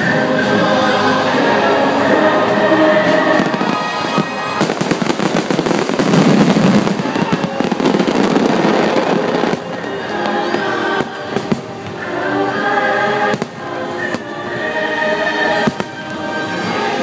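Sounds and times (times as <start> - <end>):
choral show music: 0.0 - 17.0
fireworks bangs and crackles: 2.4 - 17.0.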